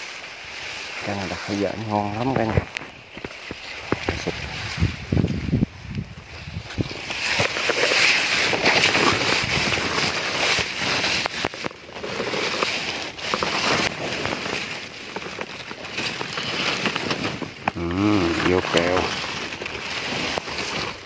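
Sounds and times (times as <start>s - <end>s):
rustling: 0.0s - 21.0s.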